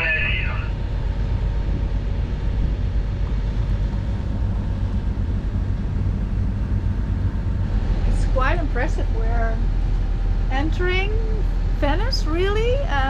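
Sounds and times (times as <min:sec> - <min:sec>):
diesel boat engine rumbling: 0:00.0 - 0:13.0.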